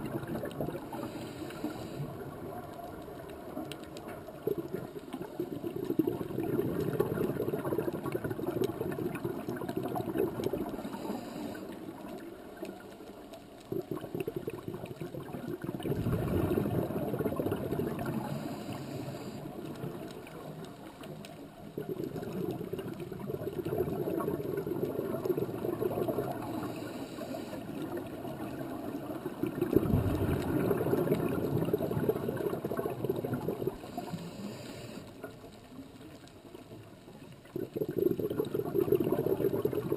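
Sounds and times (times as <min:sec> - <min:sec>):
gushing gurgling water: 0:00.0 - 0:12.9, 0:13.5 - 0:34.4, 0:37.4 - 0:39.9.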